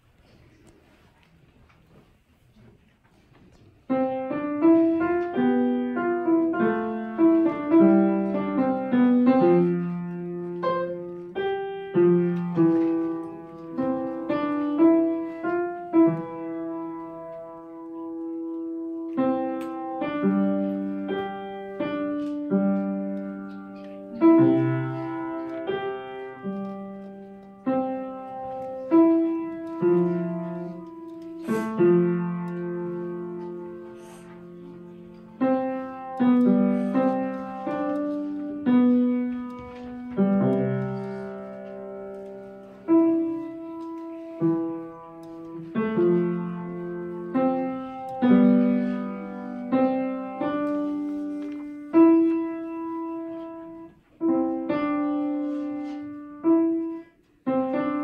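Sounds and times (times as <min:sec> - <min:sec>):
piano duet: 0:03.8 - 0:58.0.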